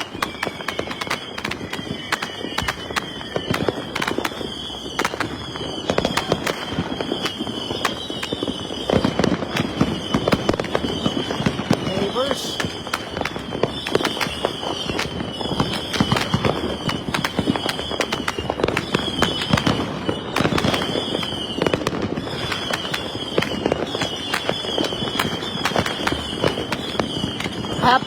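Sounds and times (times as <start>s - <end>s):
fireworks popping and banging: 0.0s - 28.0s
whistling rockets: 0.0s - 28.0s.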